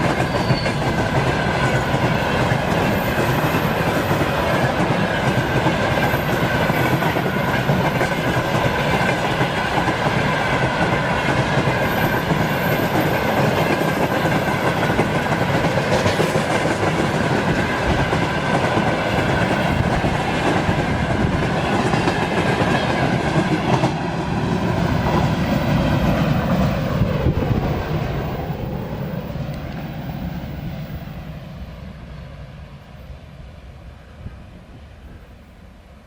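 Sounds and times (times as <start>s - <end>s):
train rolling past: 0.0s - 36.0s.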